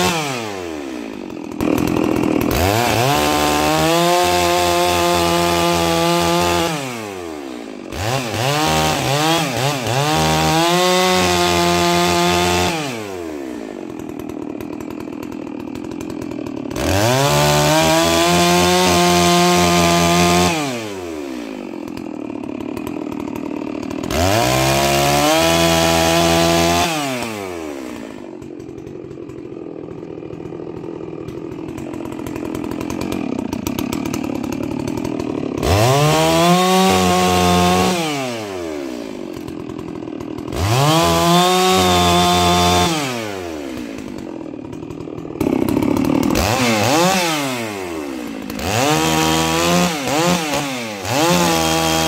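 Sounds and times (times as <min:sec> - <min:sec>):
chainsaw cutting thin wood: 0:00.0 - 0:52.0
chainsaw revving and idling: 0:00.0 - 0:52.0.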